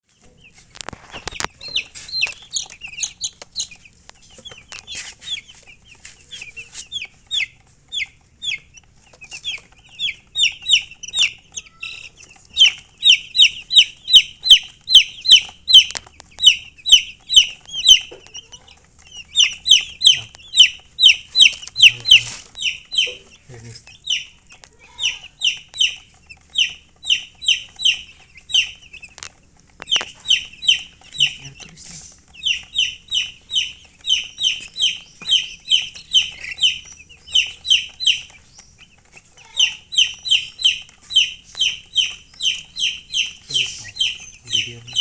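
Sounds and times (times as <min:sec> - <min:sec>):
baby chicks peeping: 0:00.0 - 0:45.0.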